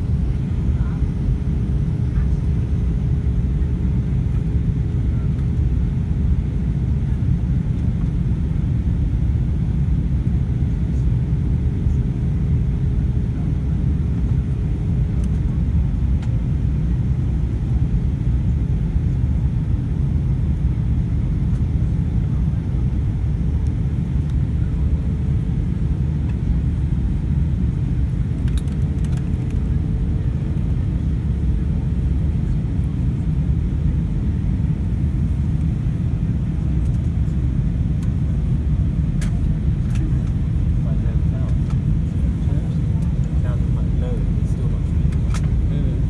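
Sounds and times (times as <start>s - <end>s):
airplane cabin rumble: 0.0s - 46.0s
faint steady hum: 0.0s - 46.0s.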